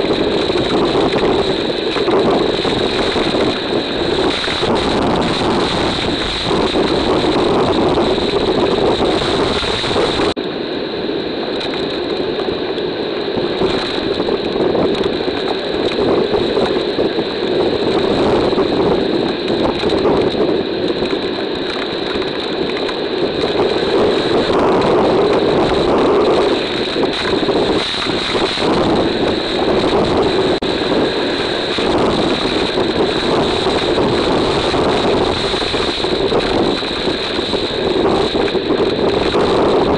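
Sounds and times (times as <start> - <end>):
hurricane wind and driving rain: 0.0 - 39.9.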